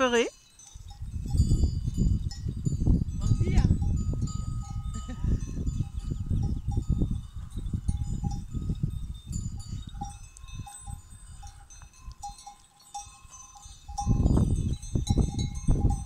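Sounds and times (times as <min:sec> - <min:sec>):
animal bells clinking: 0:00.0 - 0:16.0.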